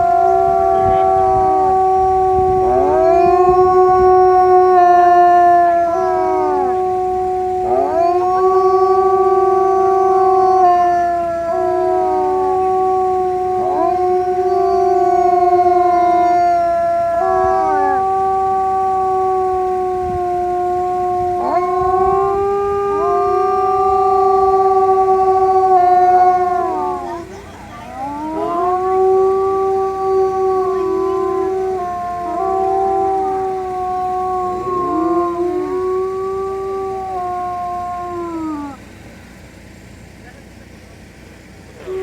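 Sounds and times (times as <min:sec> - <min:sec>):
wolves howling: 0:00.0 - 0:38.9, 0:41.8 - 0:42.0.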